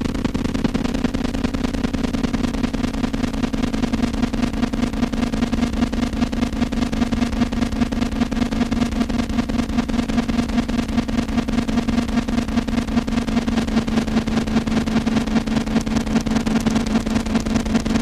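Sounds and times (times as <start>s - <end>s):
pulsing low drone: 0.0s - 18.0s.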